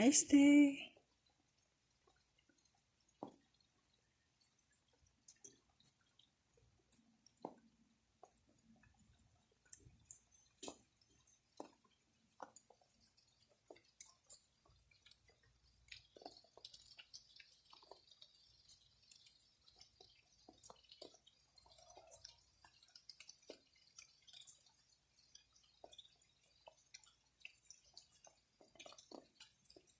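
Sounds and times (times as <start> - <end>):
rain dripping: 0.0 - 29.9.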